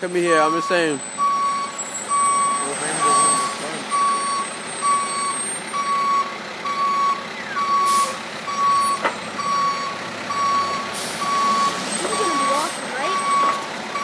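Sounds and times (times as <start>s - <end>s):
reverse alarm beeping: 0.2s - 14.0s.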